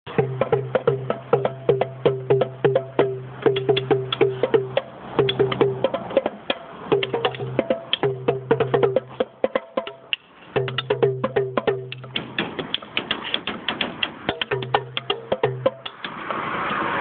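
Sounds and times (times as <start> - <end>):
small drums struck rhythmically: 0.1 - 16.2.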